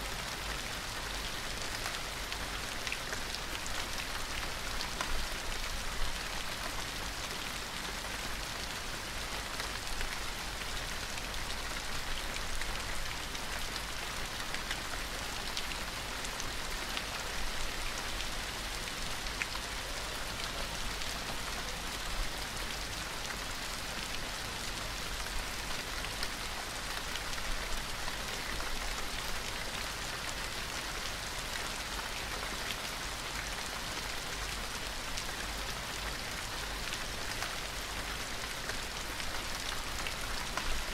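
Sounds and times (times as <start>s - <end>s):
gentle rain pattering: 0.0s - 40.9s.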